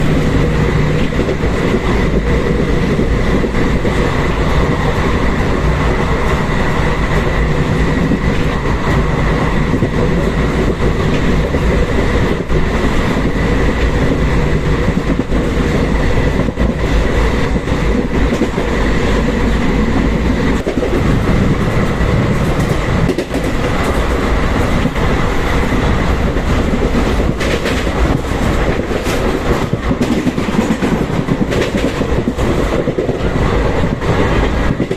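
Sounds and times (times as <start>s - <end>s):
train wheels clattering: 0.0s - 34.9s.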